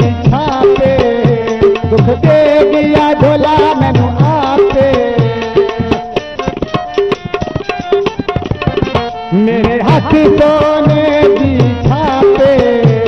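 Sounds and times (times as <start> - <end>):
rapid hand-drum strokes: 0.0 - 13.0.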